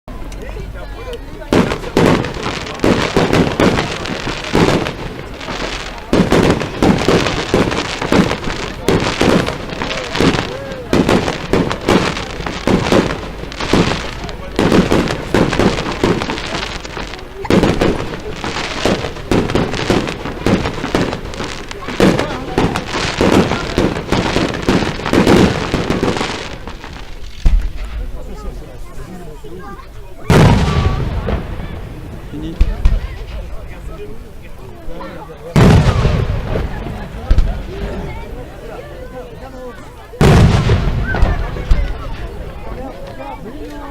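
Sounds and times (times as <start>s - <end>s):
fireworks crackling: 0.1s - 43.9s
fireworks bursting: 0.2s - 43.9s.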